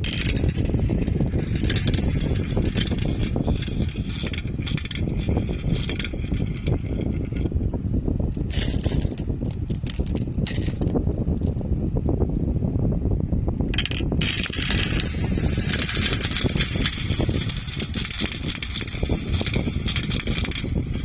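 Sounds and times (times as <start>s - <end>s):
marbles clicking and clattering: 0.0s - 7.5s, 8.3s - 11.6s, 13.7s - 21.0s
marbles rolling on track: 0.0s - 7.5s, 8.3s - 11.6s, 13.7s - 21.0s.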